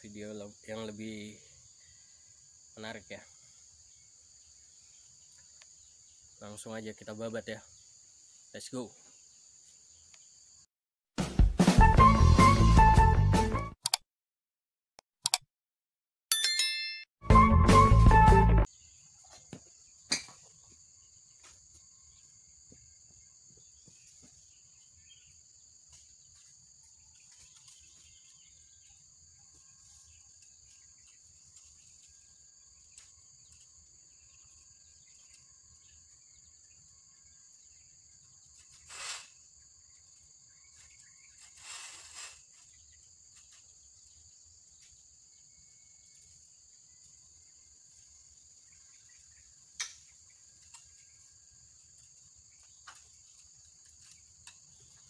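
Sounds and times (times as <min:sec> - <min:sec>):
crickets chirping: 0:00.0 - 0:10.7, 0:18.7 - 0:55.0.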